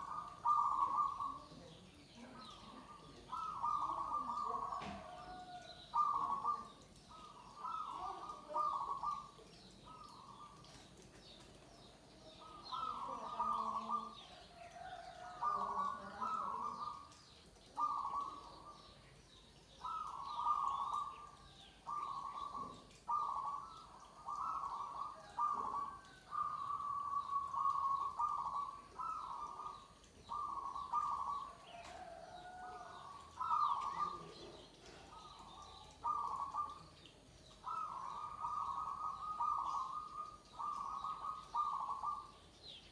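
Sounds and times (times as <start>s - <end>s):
doves cooing: 0.0s - 19.0s, 19.8s - 42.9s.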